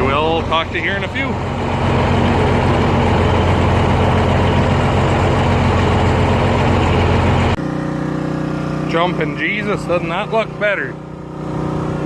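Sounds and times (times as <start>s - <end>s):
pressure washer engine hum: 0.0s - 12.0s
quieter steady engine hum: 0.0s - 12.0s.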